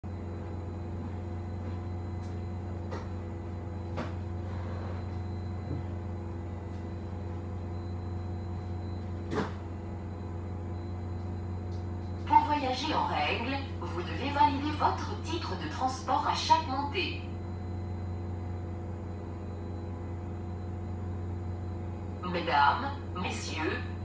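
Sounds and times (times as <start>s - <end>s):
bus idling hum: 0.0s - 24.0s.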